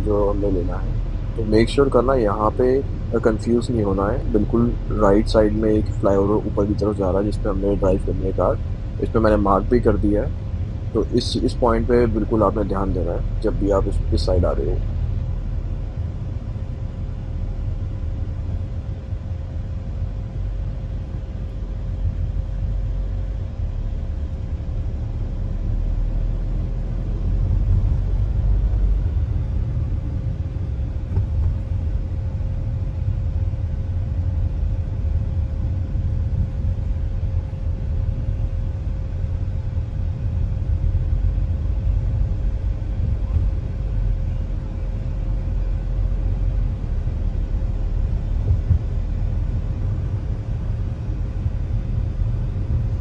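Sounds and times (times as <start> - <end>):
car interior road rumble: 0.0 - 53.0.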